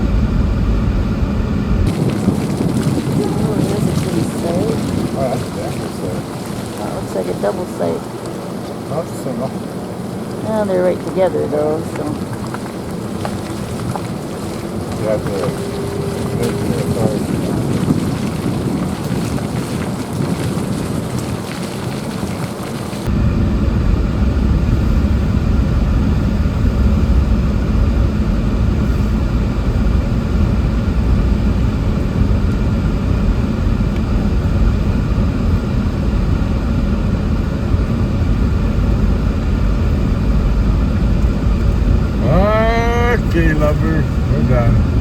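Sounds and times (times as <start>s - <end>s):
in-cab engine and road rumble: 0.0s - 45.0s
rushing wind-like noise: 0.0s - 45.0s.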